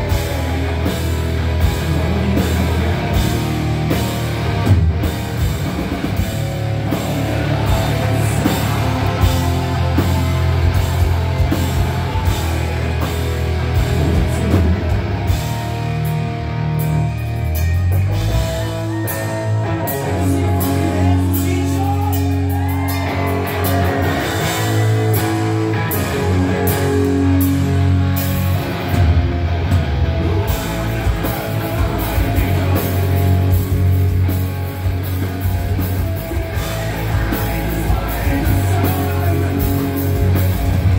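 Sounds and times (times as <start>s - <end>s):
bass guitar: 0.0s - 40.9s
distorted electric guitars: 0.0s - 40.9s
drum kit: 0.0s - 40.9s.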